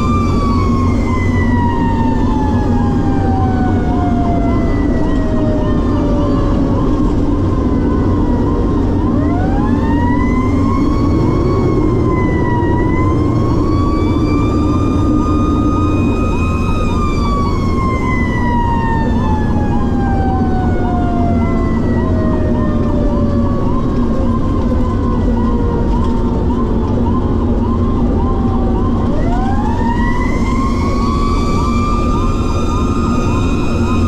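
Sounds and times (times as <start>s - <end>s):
engine drone: 0.0s - 34.0s
siren yelping: 0.0s - 34.0s.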